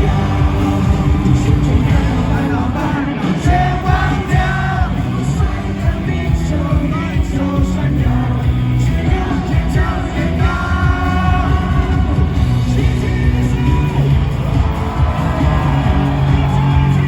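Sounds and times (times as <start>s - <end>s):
man singing: 0.0s - 14.2s
rock band playing: 0.0s - 17.0s.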